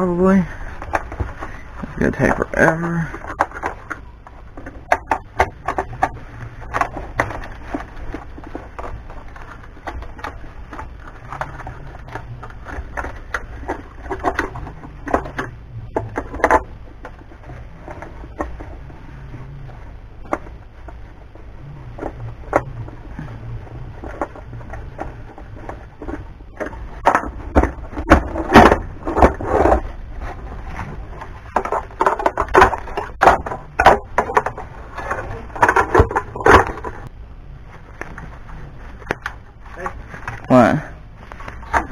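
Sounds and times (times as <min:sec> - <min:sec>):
plastic knocks and rattles: 0:00.6 - 0:37.1.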